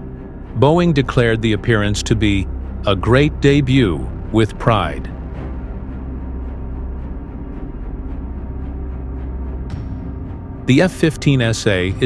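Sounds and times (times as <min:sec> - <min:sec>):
low steady drone: 0:00.0 - 0:12.0.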